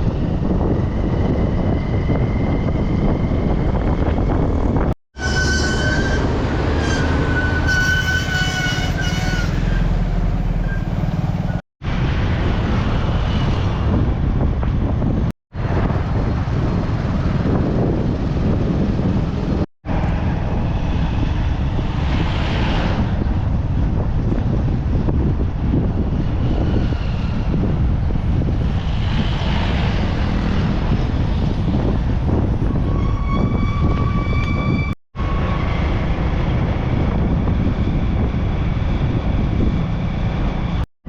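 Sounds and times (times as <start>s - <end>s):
wind buffeting microphone: 0.0s - 40.8s
road traffic: 0.0s - 40.9s.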